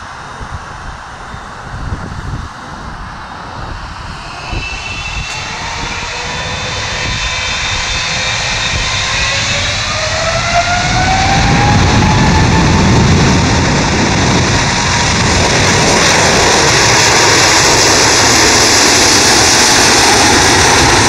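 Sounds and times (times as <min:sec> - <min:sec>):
jet engines spooling up: 0:00.0 - 0:21.0
low rumble: 0:00.0 - 0:21.0.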